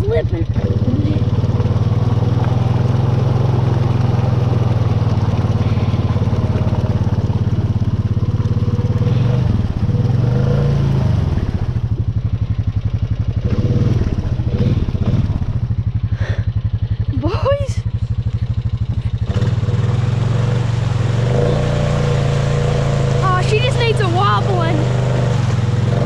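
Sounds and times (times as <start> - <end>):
quad engine revving: 0.0 - 26.0
tires slipping in mud: 0.0 - 26.0.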